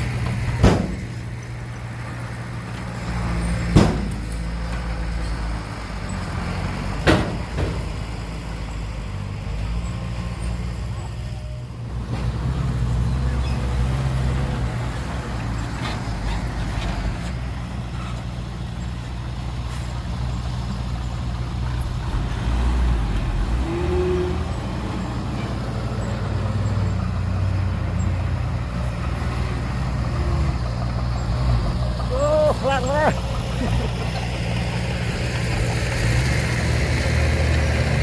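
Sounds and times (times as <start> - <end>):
heavy diesel machinery drone: 0.0 - 38.0.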